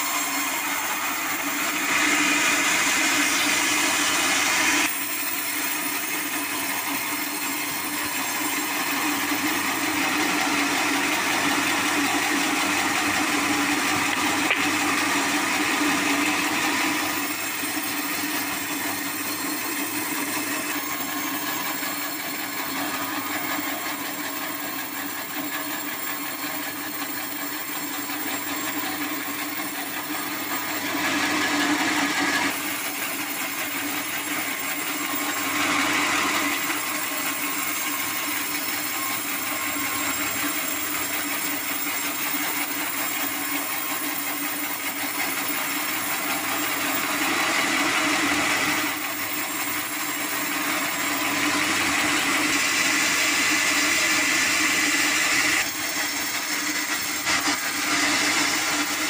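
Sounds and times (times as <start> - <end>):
motor hum: 0.0 - 50.8.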